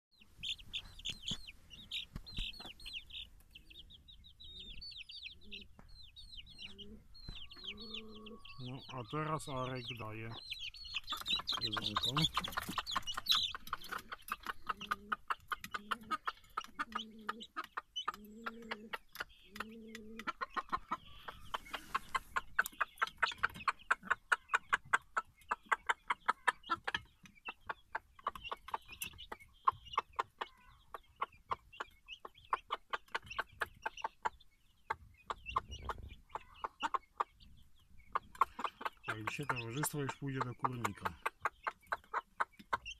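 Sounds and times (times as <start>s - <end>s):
chicks chirping: 0.1s - 42.9s
chicks pecking feed: 0.2s - 42.9s
hen clucking: 0.2s - 42.9s.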